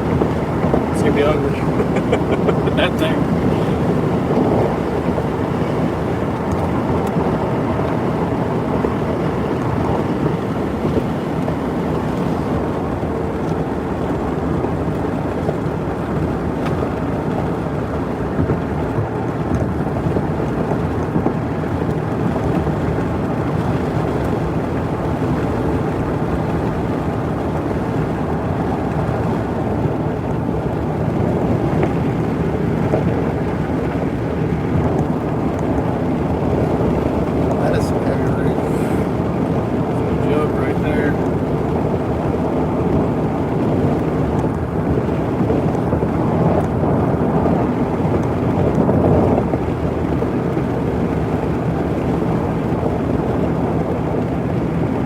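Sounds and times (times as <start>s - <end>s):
road and wind noise in vehicle: 0.0s - 55.0s.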